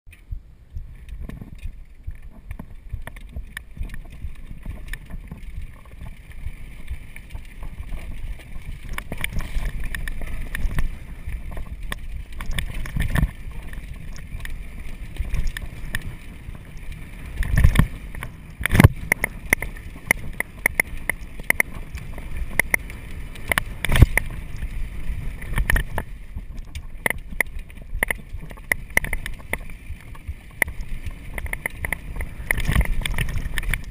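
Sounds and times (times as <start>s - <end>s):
wind on microphone: 0.1s - 33.9s
bike tyres rumbling on dirt: 0.2s - 33.9s.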